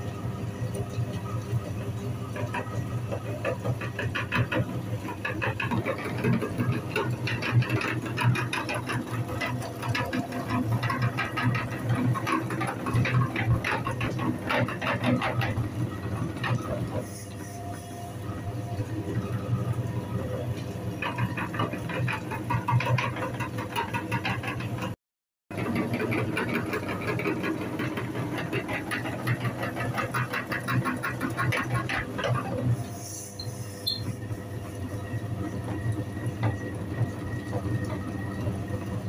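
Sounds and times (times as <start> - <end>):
meat grinder motor hum: 0.0 - 39.0.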